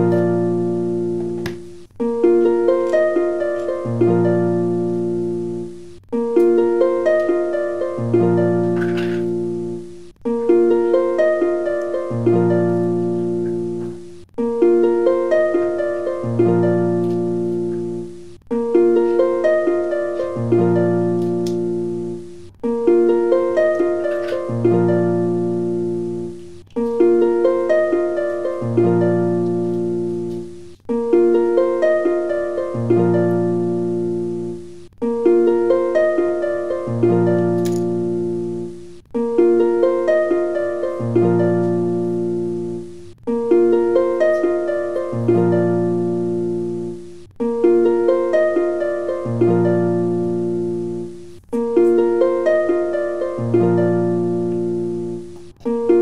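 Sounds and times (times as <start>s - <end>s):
plucked melody music: 0.0s - 56.0s.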